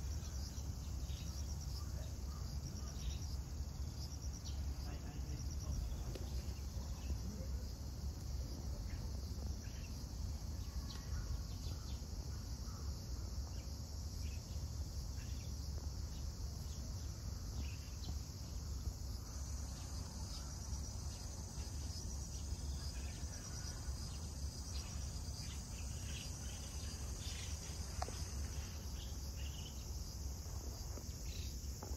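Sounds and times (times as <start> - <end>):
insects chorus in trees: 0.0 - 31.9.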